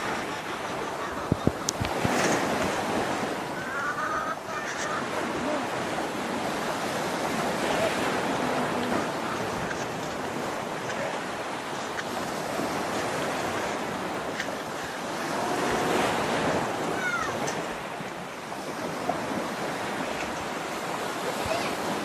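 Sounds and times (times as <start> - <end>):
waterfall rushing: 0.0 - 20.2
faint chirp-like glide: 0.0 - 20.5.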